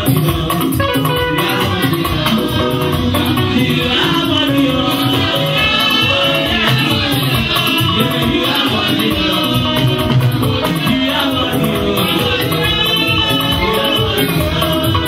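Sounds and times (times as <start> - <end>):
church praise singing: 0.0 - 15.0
steady percussion beat: 0.0 - 15.0.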